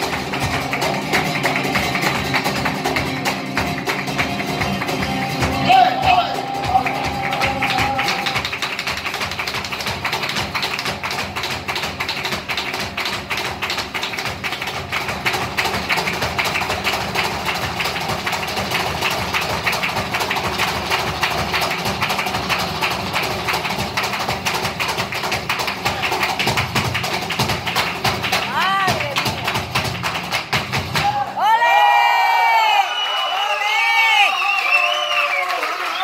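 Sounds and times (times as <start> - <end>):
hand-clapping: 0.0 - 31.2, 32.8 - 36.0
dance shoes striking stage: 0.0 - 31.5.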